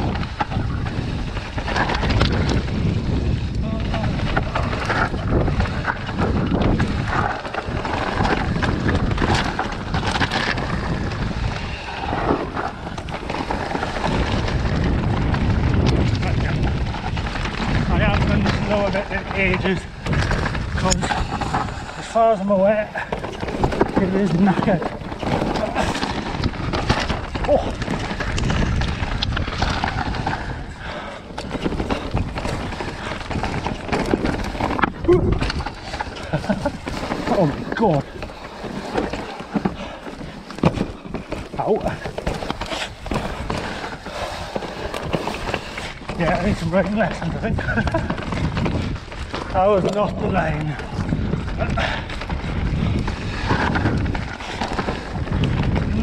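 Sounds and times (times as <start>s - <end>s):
bike rattling: 0.0s - 56.0s
tyres crunching on stones: 0.0s - 56.0s
wind buffeting microphone: 0.0s - 56.0s.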